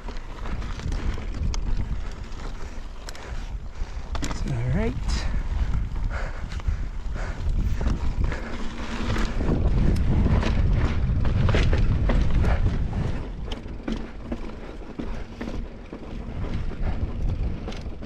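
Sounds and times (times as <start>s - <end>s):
bike rattling clicks and knocks: 0.0s - 18.0s
bike tyres rumbling on rock: 0.0s - 18.0s
wind buffeting microphone: 0.0s - 18.0s.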